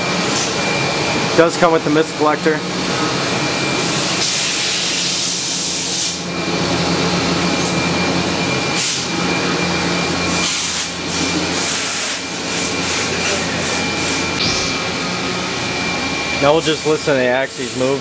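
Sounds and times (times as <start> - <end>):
machining center drone and whine: 0.0 - 18.0.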